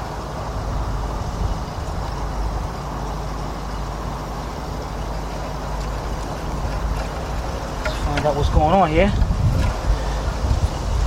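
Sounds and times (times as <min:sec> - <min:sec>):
rough misfiring engine idling: 0:00.0 - 0:11.0.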